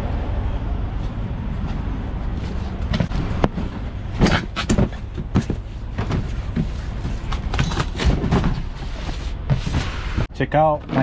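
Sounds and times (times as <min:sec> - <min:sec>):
vehicle rumble inside cab: 0:00.0 - 0:10.4.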